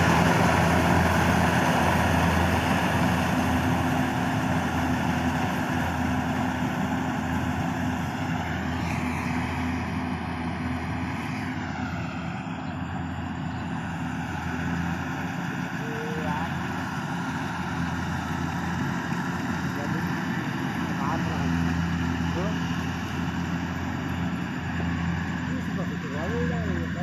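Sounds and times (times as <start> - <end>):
combine harvester engine running: 0.0 - 27.0.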